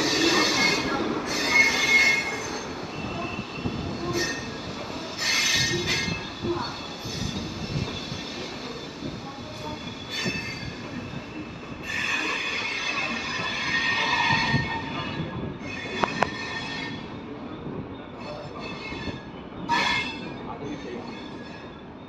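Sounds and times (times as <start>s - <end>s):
low train rumble: 0.0s - 22.0s
train wheels squealing on rails: 0.0s - 22.0s.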